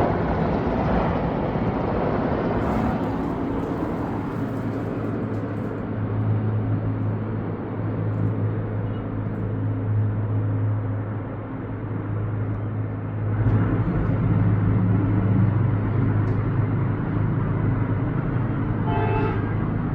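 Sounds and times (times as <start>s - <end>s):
low engine drone: 0.0s - 19.9s.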